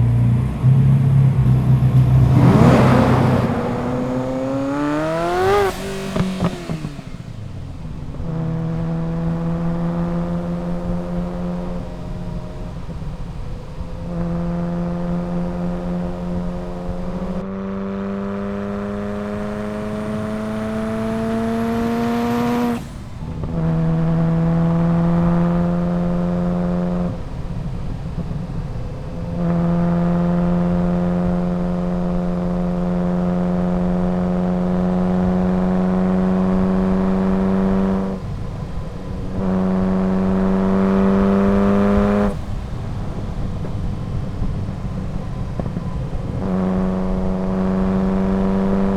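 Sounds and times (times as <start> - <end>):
sports car engine pulling under load: 0.0 - 48.9.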